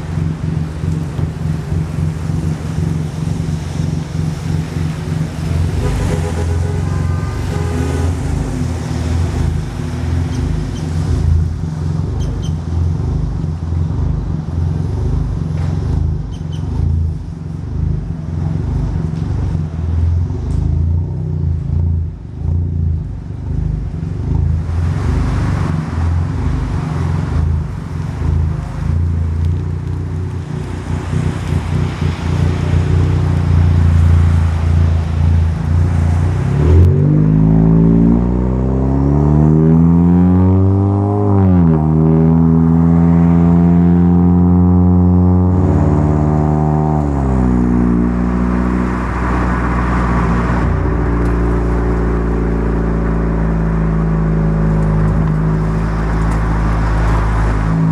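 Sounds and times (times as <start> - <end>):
car engine running at low revs: 0.0 - 57.9
road and tyre rush: 0.0 - 57.9.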